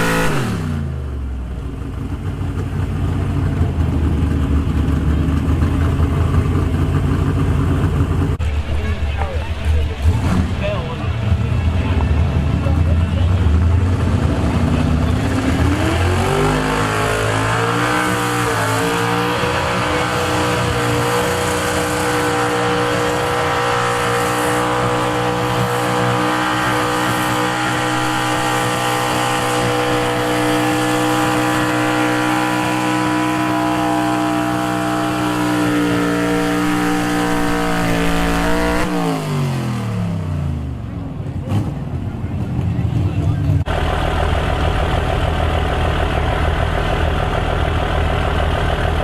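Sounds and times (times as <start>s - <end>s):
truck engine at full throttle: 0.0s - 49.0s.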